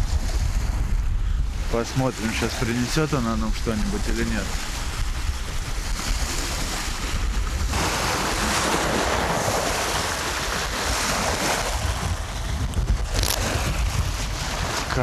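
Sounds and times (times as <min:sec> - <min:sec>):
waves washing: 0:00.0 - 0:15.0
wind buffeting microphone: 0:00.0 - 0:15.0.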